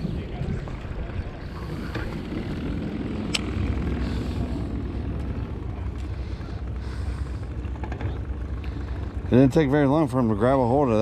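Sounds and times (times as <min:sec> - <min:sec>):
boat motor droning: 0:00.0 - 0:11.0.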